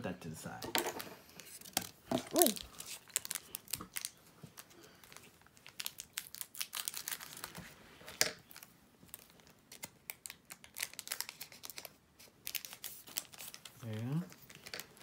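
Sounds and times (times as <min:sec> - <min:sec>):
foil wrappers crinkling: 0:01.6 - 0:07.6, 0:08.5 - 0:15.0.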